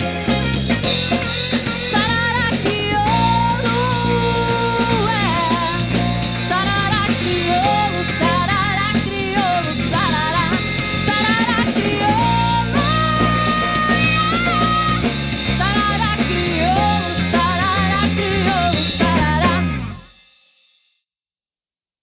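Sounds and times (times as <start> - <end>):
wavering lead melody: 0.0 - 20.1
bass: 0.0 - 20.2
drum kit: 0.0 - 20.7.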